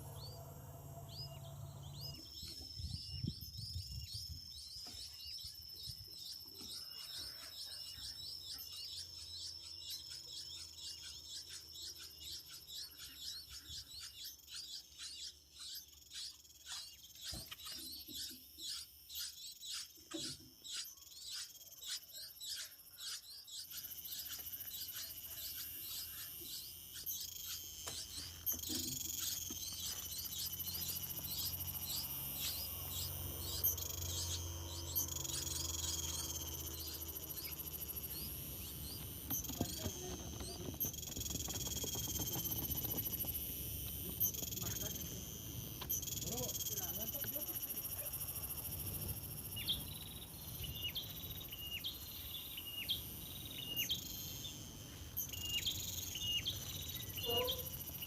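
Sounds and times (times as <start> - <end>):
high insect drone: 0.0 - 58.0
small bird chirping: 0.0 - 58.0.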